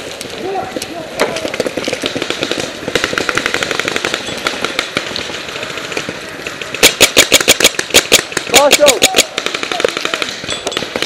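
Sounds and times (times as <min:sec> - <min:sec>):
paintball markers firing: 0:00.7 - 0:11.0.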